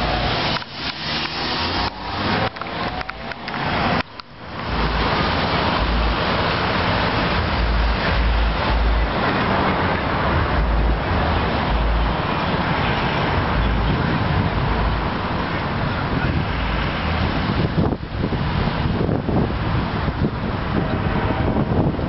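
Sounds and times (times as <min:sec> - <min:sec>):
passing cars: 0:00.0 - 0:22.0
wind noise on microphone: 0:00.0 - 0:22.0
low buffeting rumbles: 0:01.9 - 0:22.0.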